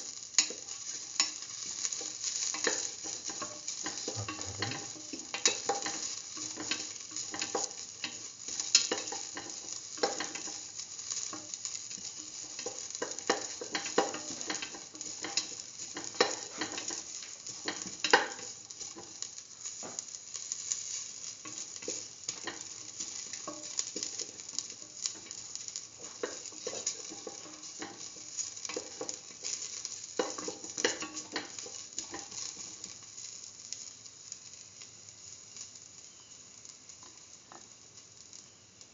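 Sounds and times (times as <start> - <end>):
crackles and pops of frying: 0.0 - 38.9
onion sizzling in hot oil: 0.0 - 38.9.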